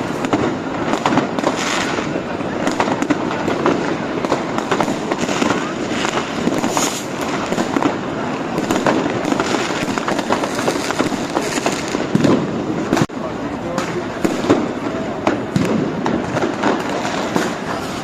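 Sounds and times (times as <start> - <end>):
fireworks and firecrackers banging: 0.0 - 18.0.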